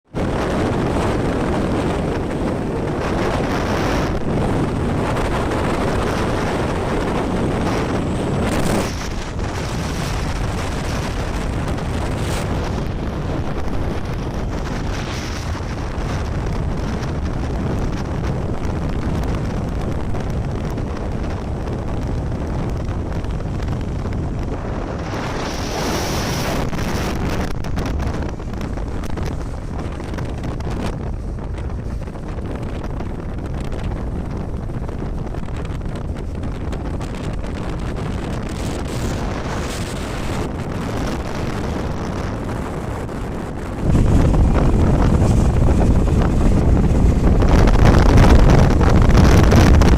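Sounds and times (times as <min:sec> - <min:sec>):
wind buffeting microphone: 0:00.0 - 0:49.9
low rumble: 0:00.1 - 0:49.9.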